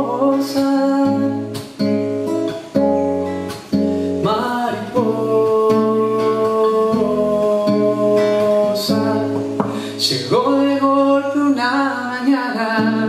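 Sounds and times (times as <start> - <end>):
man singing: 0.0 - 1.8, 4.2 - 13.0
classical guitar chords: 0.0 - 13.0.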